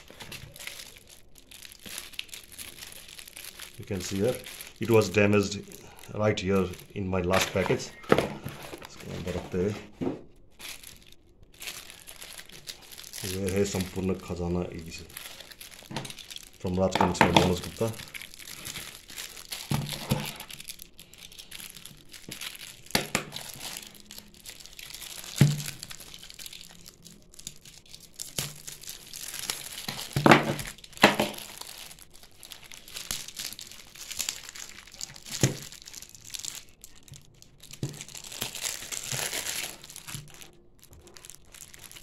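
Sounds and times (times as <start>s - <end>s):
plastic wrapping crinkling and tearing: 0.0s - 42.0s.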